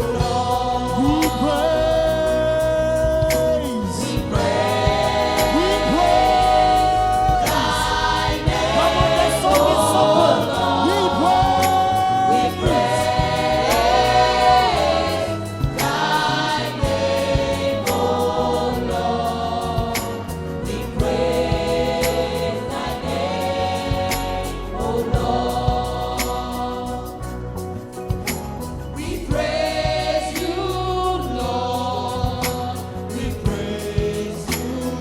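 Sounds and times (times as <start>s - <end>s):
band with bass and drums: 0.0s - 35.0s
group singing gospel song: 0.0s - 35.0s.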